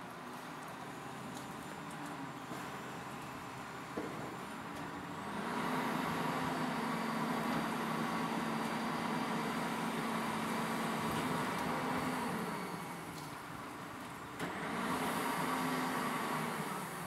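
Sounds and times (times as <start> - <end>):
garbage truck engine: 0.0 - 17.0.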